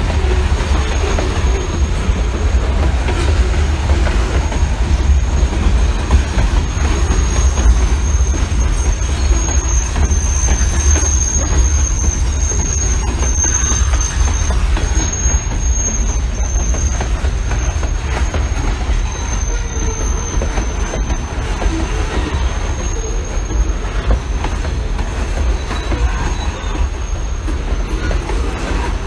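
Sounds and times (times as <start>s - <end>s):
train heavy low rumble: 0.0s - 29.0s
high-pitched wheel squeal: 3.8s - 29.0s.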